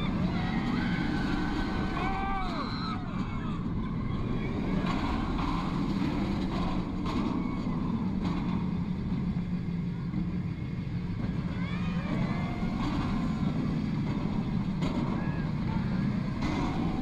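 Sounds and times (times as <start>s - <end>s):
roller coaster wheels roaring on track: 0.0s - 17.0s.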